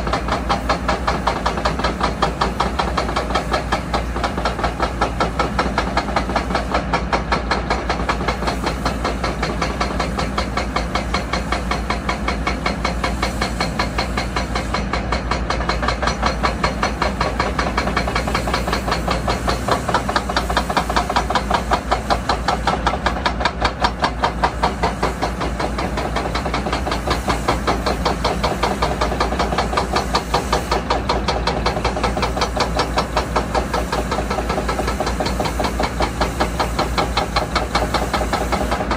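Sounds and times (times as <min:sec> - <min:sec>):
hiss of air: 0:00.0 - 0:38.9.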